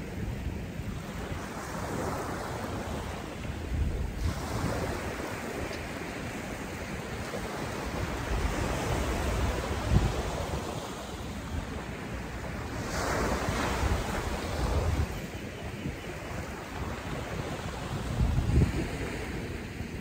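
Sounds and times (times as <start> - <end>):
surf washing up beach: 0.0 - 20.0
wind gusting on microphone: 0.0 - 20.0.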